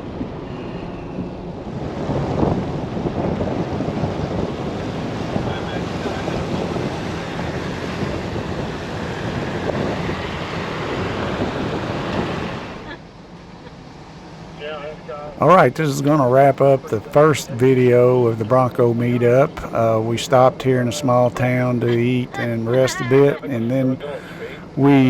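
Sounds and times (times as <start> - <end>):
heavy rain pouring: 0.0 - 12.9, 14.1 - 25.0.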